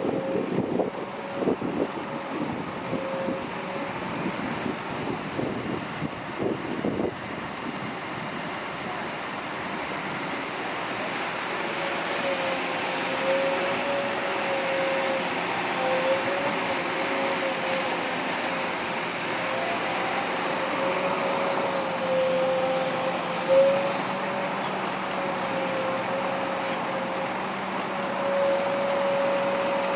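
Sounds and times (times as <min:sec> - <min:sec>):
heavy diesel machinery running: 0:00.0 - 0:29.9.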